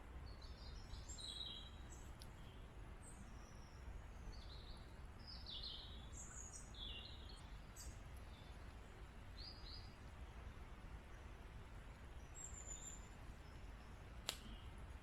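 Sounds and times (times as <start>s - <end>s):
small birds chirping: 0.3s - 10.0s, 12.1s - 14.8s.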